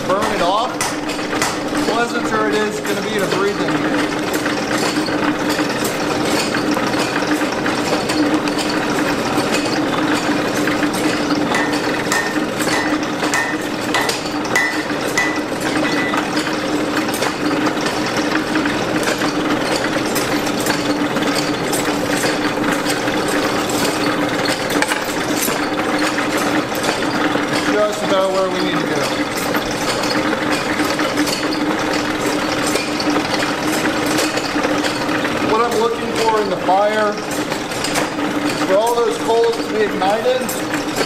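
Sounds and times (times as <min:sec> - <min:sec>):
gear clatter: 0:00.0 - 0:41.0
hand-cranked blower whirring: 0:00.0 - 0:41.0.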